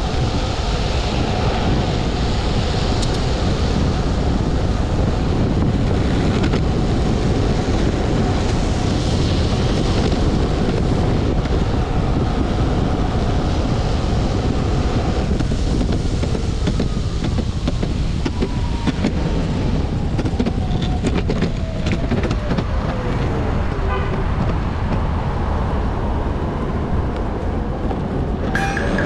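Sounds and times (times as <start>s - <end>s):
wind buffeting microphone: 0.0s - 29.0s
skateboard wheel rumble: 0.1s - 25.8s.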